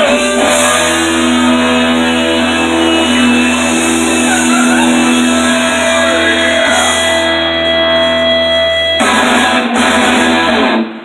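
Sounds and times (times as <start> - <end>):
loud guitar music: 0.0 - 11.0.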